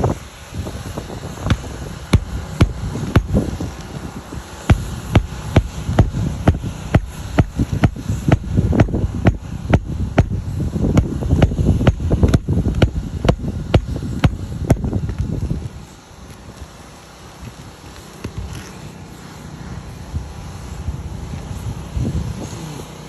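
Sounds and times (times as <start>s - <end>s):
machine rumbling: 0.6s - 20.6s.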